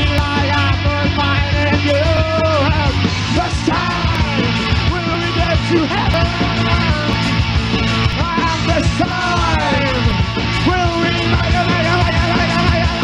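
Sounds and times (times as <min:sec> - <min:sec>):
rock band instrumental: 0:00.0 - 0:13.0.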